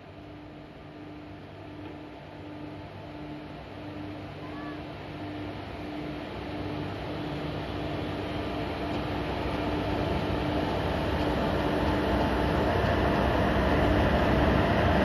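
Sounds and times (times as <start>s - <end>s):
electric locomotive running: 0.0s - 15.0s.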